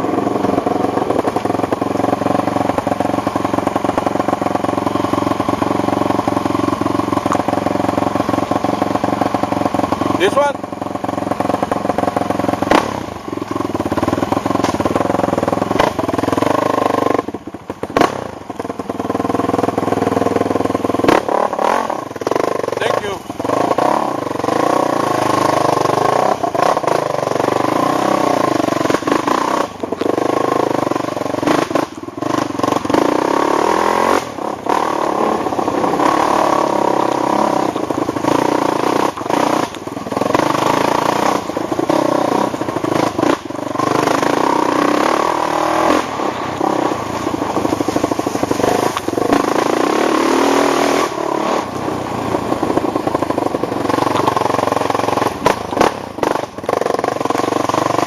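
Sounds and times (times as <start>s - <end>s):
atv engine running hard: 0.0s - 58.0s.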